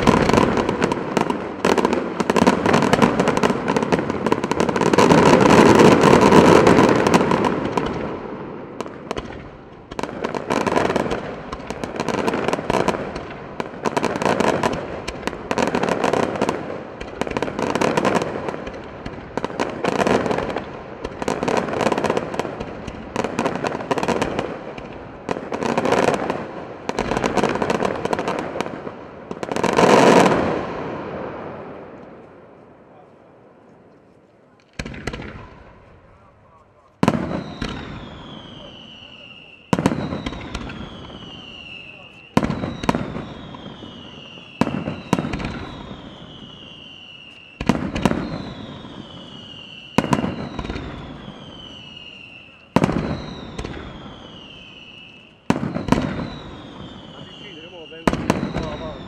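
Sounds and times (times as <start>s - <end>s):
fireworks crackling explosions: 0.0s - 59.0s.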